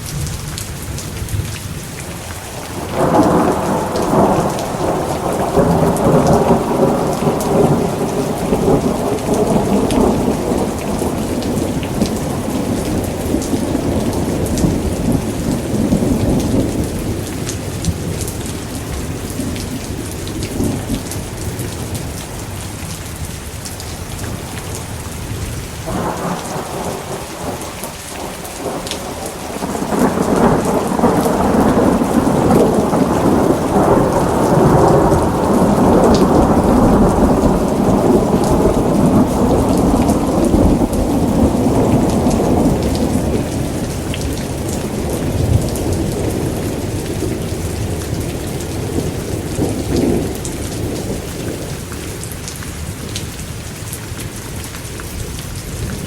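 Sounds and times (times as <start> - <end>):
steady rain: 0.0 - 56.0
rolling thunder: 2.6 - 22.5, 24.2 - 51.8.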